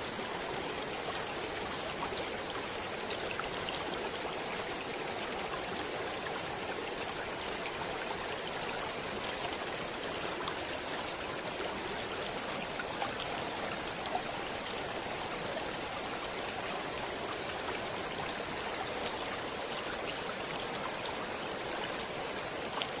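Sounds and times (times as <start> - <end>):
stream water rushing: 0.0 - 23.0
water splashes and drips: 0.0 - 23.0.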